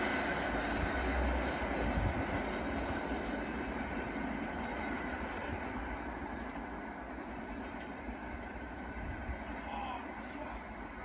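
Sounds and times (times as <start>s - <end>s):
train running along track: 0.0s - 11.0s.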